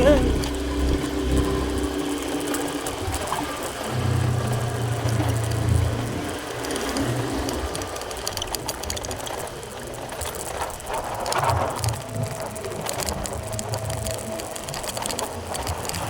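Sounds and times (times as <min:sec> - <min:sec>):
motorbike engine rumble: 0:00.0 - 0:16.0
road and wind noise: 0:00.0 - 0:16.0.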